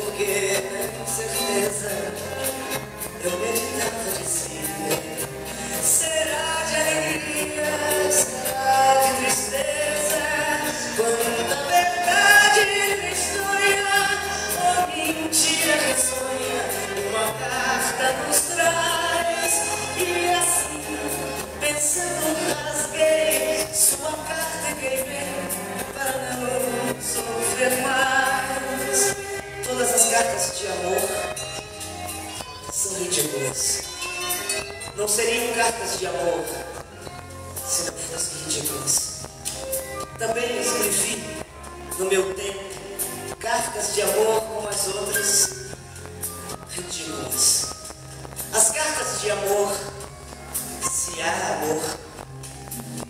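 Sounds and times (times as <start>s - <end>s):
instrumental backing music: 0.0s - 53.0s
person singing with vibrato: 0.0s - 53.0s.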